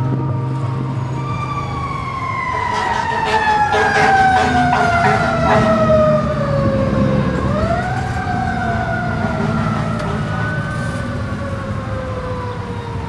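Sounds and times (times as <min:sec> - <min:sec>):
city traffic rumble: 0:00.0 - 0:13.0
emergency siren wailing: 0:00.0 - 0:13.0.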